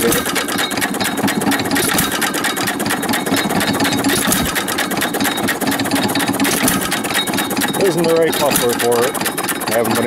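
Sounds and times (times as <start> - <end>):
engine clattering with sharp clicks: 0.0 - 10.0.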